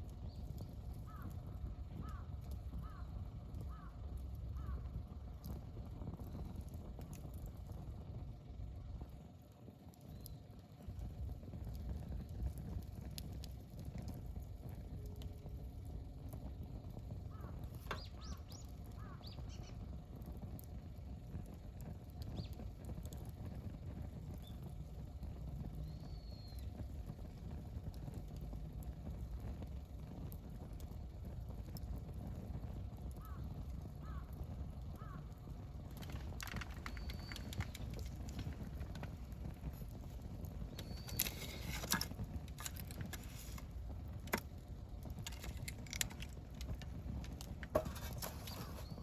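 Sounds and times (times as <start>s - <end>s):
campfire low rumble: 0.0s - 49.0s
fire crackles and pops: 0.0s - 49.0s.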